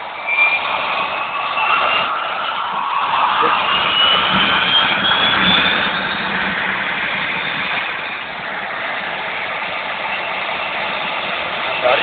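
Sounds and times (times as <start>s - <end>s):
engine-like running noise: 0.0s - 12.0s
thin high whine: 0.0s - 12.0s.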